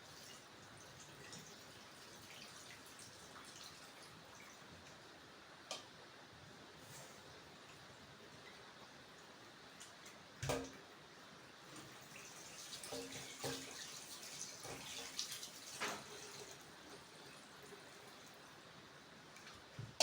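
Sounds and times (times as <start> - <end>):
water running in a sink: 0.0 - 5.8, 6.8 - 20.0.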